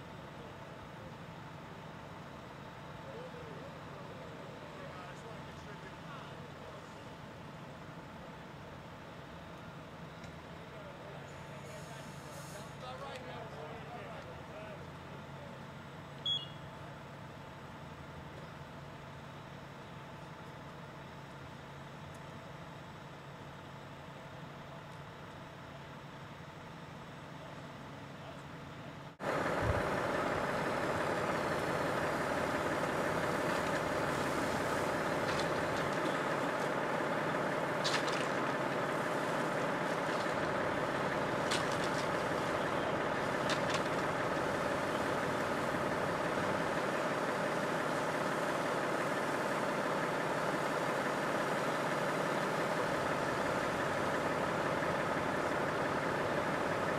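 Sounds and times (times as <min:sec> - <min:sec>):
truck engine idling: 0:00.0 - 0:56.9.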